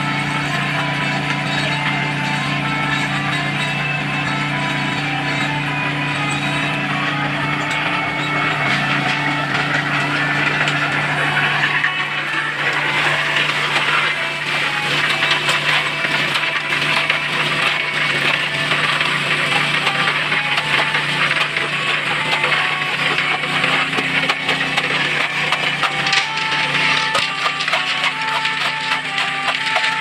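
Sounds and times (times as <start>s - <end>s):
gravelly concrete crackling and scraping: 0.1s - 30.0s.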